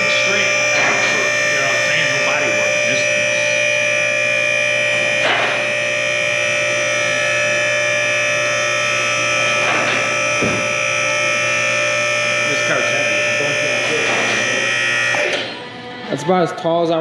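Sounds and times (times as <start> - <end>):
hydraulic pump whine: 0.0 - 17.0.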